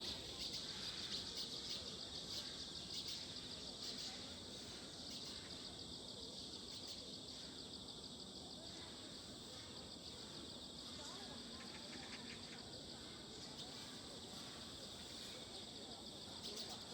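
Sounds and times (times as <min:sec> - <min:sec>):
insects trilling: 0:00.0 - 0:16.9.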